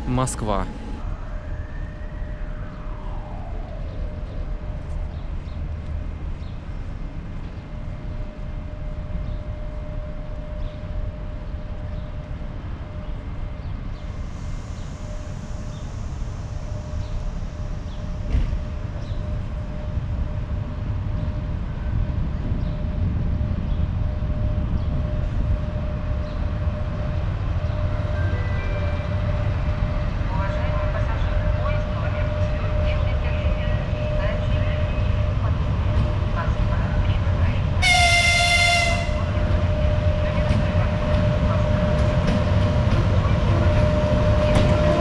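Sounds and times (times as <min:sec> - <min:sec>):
approaching train rumble: 0:00.0 - 0:45.0.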